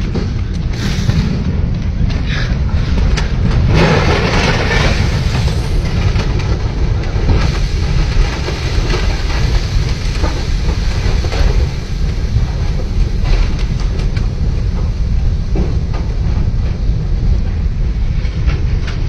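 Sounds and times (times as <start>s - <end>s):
mudslide rushing and rumbling: 0.0s - 19.0s.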